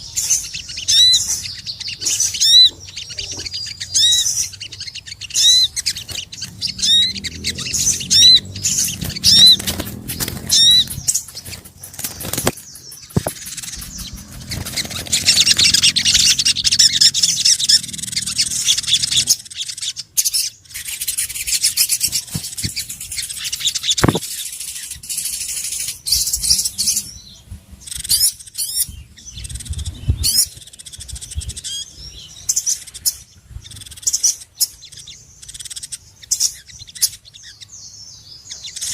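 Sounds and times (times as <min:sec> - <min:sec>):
sunbird high chirps: 0:00.0 - 0:38.9.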